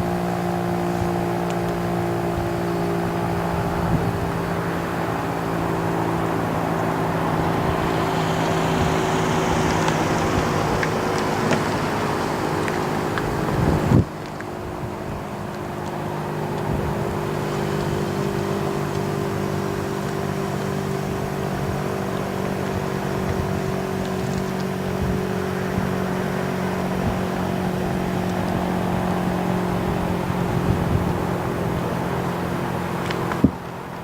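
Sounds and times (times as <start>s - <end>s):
traffic rumble: 0.0s - 34.0s
vehicle engines idling: 0.0s - 34.0s.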